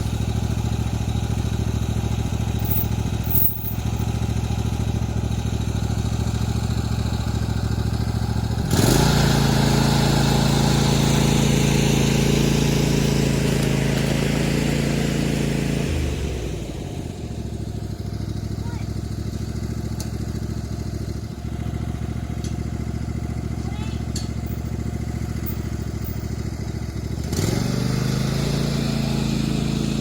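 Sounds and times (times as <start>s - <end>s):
lawn tractor engine running: 0.0s - 3.2s, 3.8s - 30.0s.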